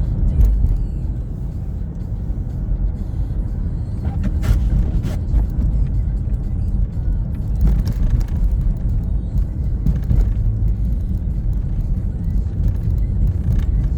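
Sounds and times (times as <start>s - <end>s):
car road and engine rumble: 0.0s - 13.9s.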